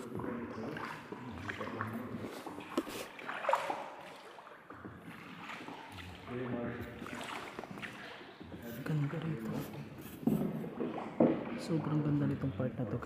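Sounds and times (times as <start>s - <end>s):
soft water splashes: 0.0s - 13.0s.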